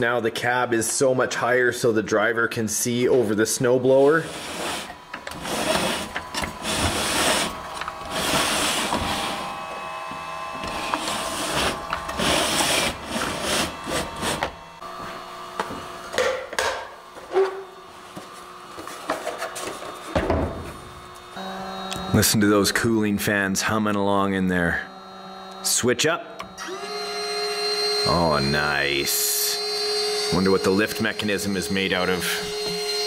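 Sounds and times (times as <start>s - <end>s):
cooling fans humming: 0.0s - 33.0s.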